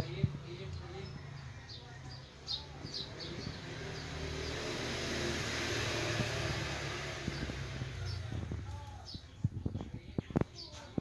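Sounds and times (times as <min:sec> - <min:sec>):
motor vehicle passing: 0:00.0 - 0:09.3.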